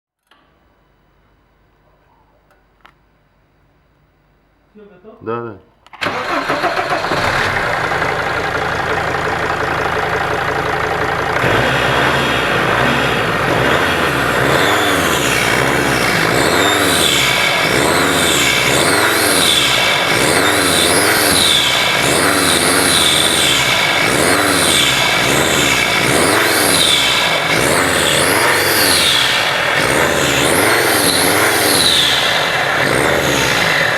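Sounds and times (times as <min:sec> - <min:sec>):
van engine starting and revving: 0:05.8 - 0:33.9.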